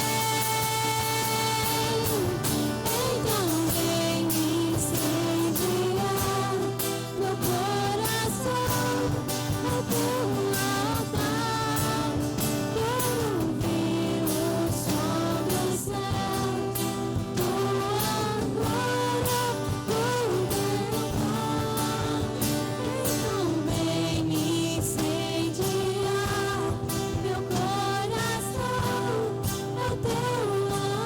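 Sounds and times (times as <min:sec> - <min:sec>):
drums keeping a steady beat: 0:00.0 - 0:31.0
voices singing: 0:00.0 - 0:31.0.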